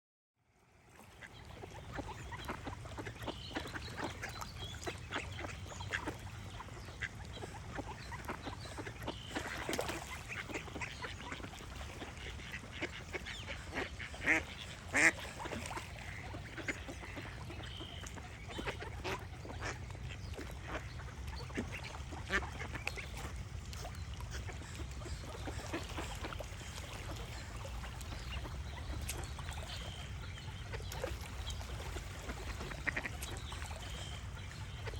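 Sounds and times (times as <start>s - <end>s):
ducks quacking: 1.0s - 34.9s
small birds singing: 1.4s - 11.6s, 12.2s - 34.9s.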